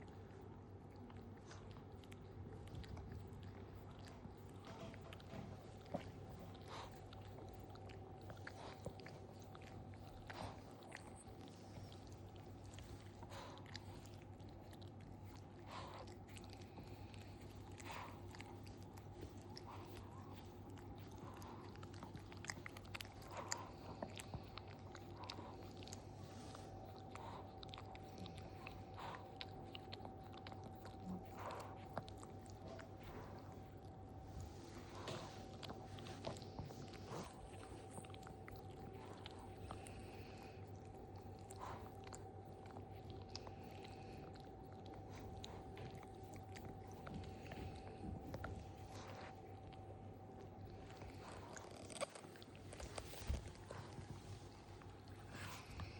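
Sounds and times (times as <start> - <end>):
dog licking and chewing fur: 0.0 - 55.9
faint steady hum: 0.0 - 55.9.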